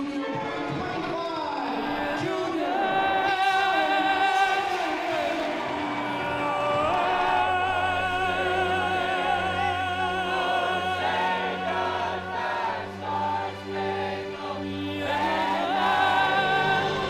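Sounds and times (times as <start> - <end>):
choir singing held notes: 1.6 - 17.0.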